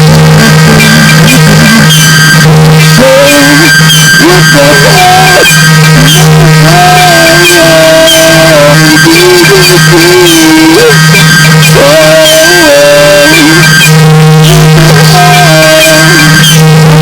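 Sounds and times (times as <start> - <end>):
lo-fi music with sliding melody: 0.0 - 17.0.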